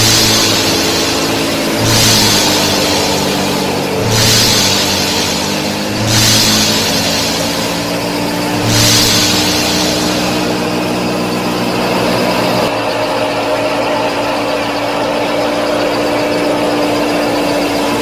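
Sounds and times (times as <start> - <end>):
small electric motors humming: 0.0 - 18.0.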